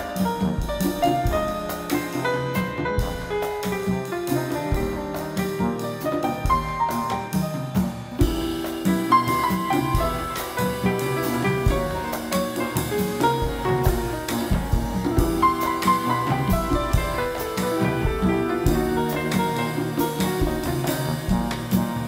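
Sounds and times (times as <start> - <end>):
live instrumental band music: 0.0 - 22.0.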